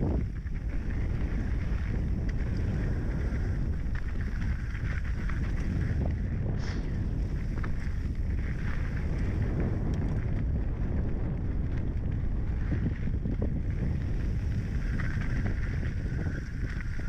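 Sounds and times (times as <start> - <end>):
bike tyres rolling on dirt: 0.0 - 17.0
wind buffeting microphone: 0.0 - 17.0.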